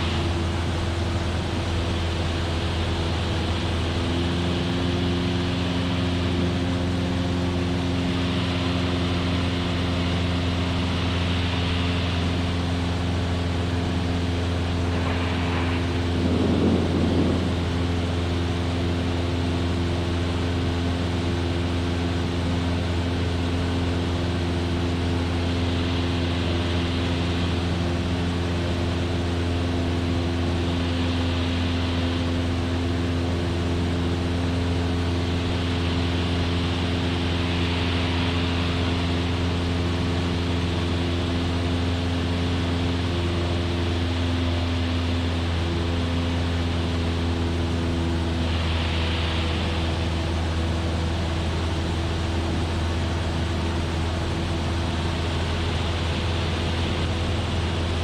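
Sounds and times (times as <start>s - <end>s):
airflow hiss: 0.0s - 58.0s
airplane engine and propeller drone: 0.0s - 58.0s.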